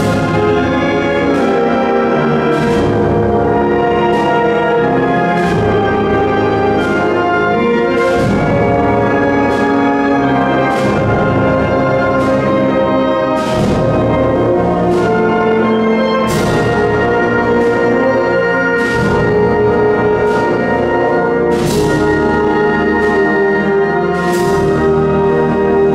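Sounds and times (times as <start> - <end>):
wind band playing a march: 0.0 - 25.9.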